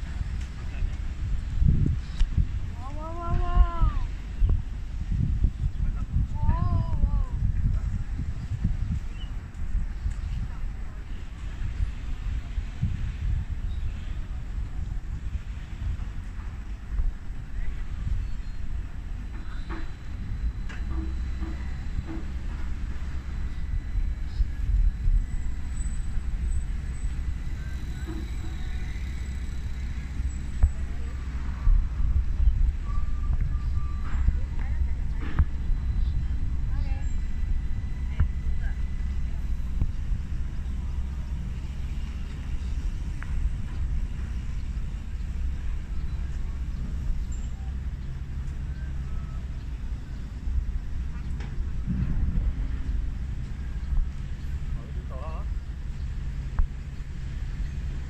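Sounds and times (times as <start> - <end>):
faint high whine: 0.0 - 58.0
low uneven rumble: 0.0 - 58.0.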